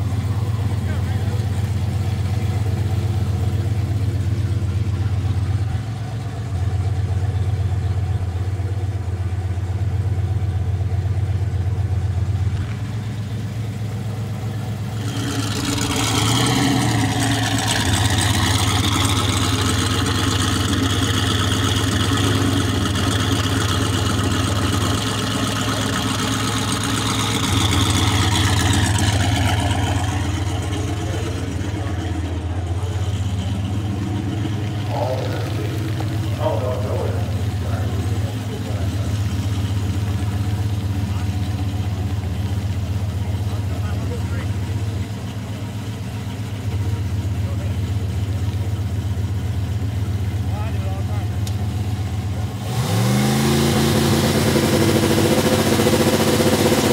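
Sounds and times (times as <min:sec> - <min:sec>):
car engine idling unevenly: 0:00.0 - 0:56.9.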